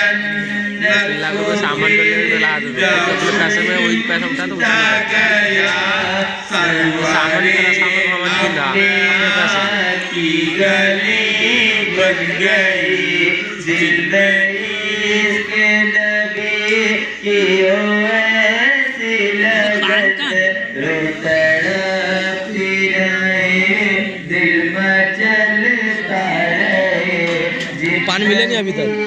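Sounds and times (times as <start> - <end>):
men chanting melodically: 0.0 - 29.0.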